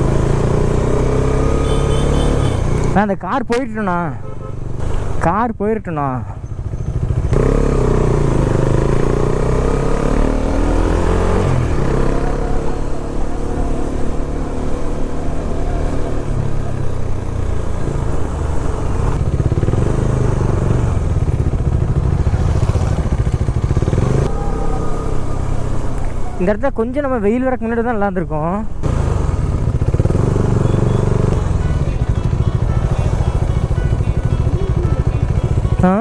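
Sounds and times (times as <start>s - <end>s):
motorcycle engine revving: 0.0s - 3.0s, 6.4s - 26.5s, 28.7s - 36.0s.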